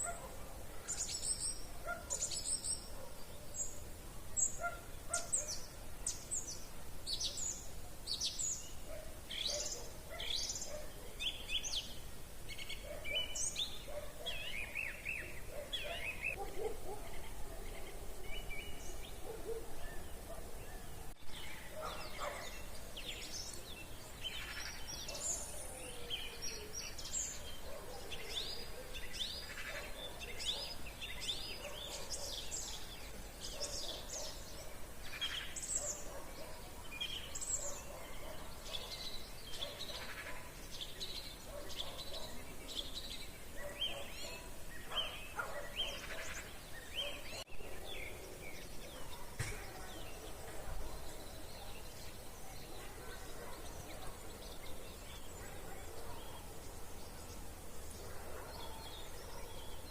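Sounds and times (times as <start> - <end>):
outdoor background hiss: 0.0 - 59.9
songbirds singing: 0.0 - 59.9.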